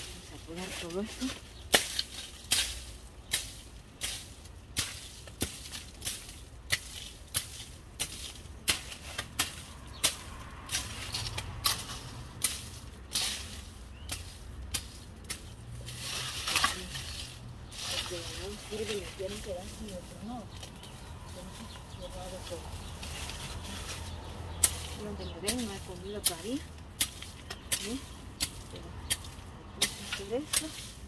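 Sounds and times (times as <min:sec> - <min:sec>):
dry leaf rustle: 0:00.0 - 0:31.0.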